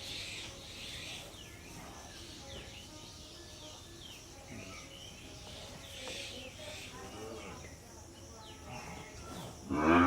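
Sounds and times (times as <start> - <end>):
birds chirping faintly: 0.0 - 10.0
low outdoor background hum: 0.0 - 10.0.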